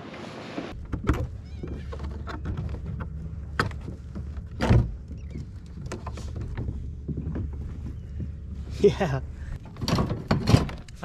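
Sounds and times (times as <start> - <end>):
steady low rumble: 0.7 - 9.7.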